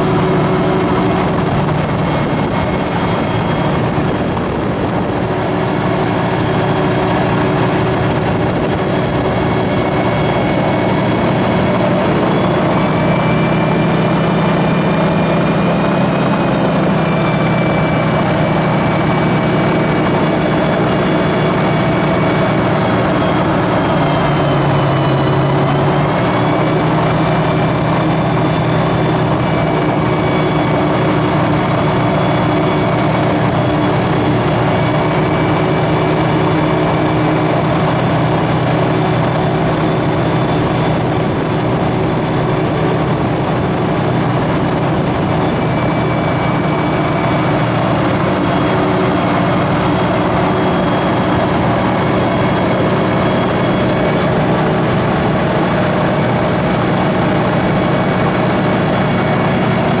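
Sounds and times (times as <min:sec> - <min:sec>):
hovercraft engine drone: 0:00.0 - 1:00.0
rush of air: 0:00.0 - 1:00.0.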